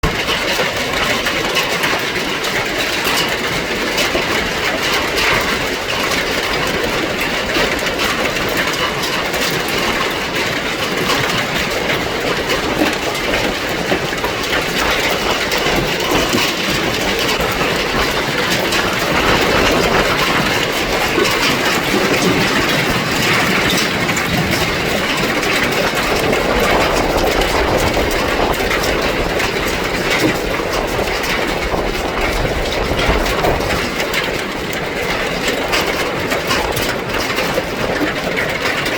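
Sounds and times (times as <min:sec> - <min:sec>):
hail and heavy rain clattering: 0:00.0 - 0:38.9.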